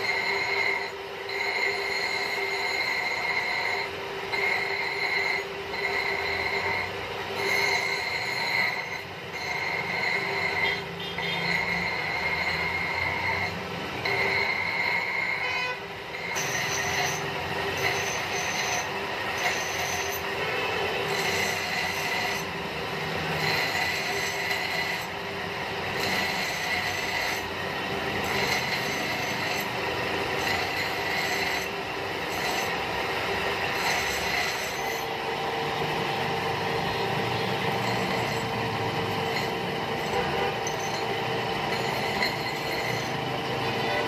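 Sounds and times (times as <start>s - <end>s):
grinding wheel whine: 0.0s - 44.0s
metal grinding on wheel: 0.0s - 44.0s.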